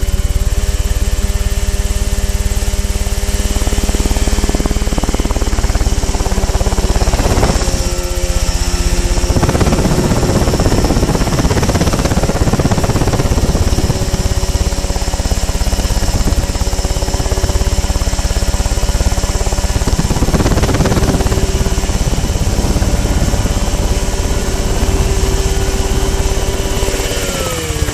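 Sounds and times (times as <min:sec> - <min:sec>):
helicopter engine running: 0:00.0 - 0:27.9.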